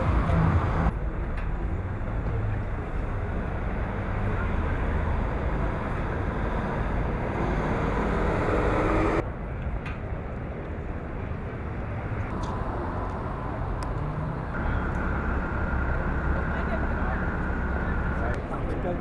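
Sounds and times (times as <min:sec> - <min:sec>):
vehicle engine: 0:00.0 - 0:09.2, 0:11.6 - 0:19.0
outdoor background noise: 0:00.0 - 0:19.0.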